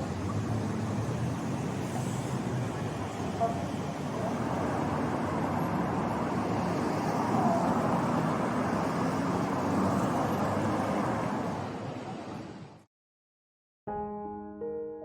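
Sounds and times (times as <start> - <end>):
road traffic rushing past: 0.0 - 12.8.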